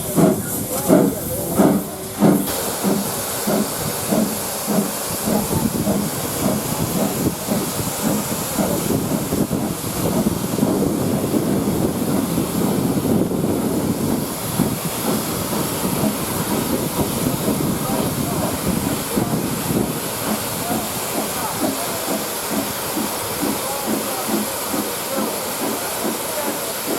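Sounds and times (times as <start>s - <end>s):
steam hissing: 0.0s - 26.9s
steam locomotive exhaust beats: 0.0s - 26.9s.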